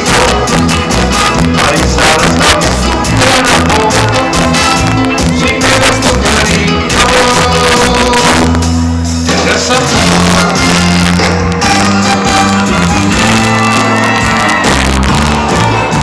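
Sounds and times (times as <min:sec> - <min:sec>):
loud music with bass beat: 0:00.0 - 0:16.0.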